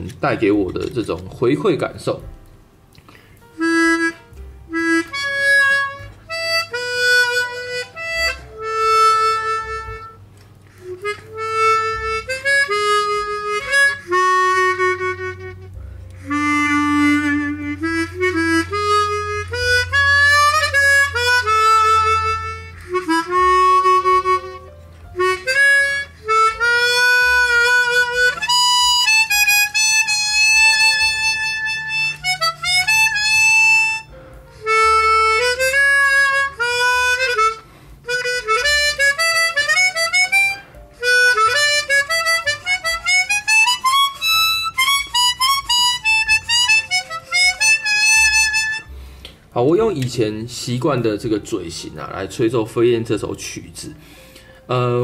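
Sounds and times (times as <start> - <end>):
harmonica melody: 0.0 - 55.0.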